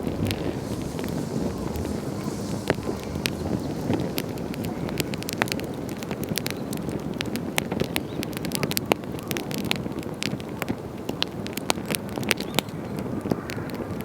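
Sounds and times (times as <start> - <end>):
low rush of flame: 0.0 - 14.0
wood crackling and popping: 0.0 - 14.0.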